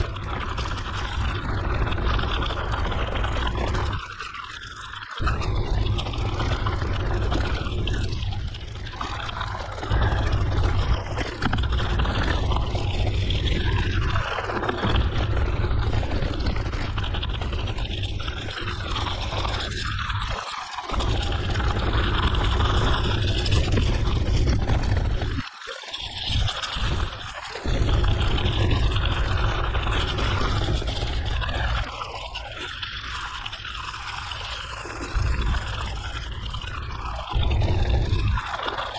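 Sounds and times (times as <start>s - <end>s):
wind rumbling on microphone: 0.0s - 4.3s, 5.2s - 25.5s, 26.2s - 38.9s.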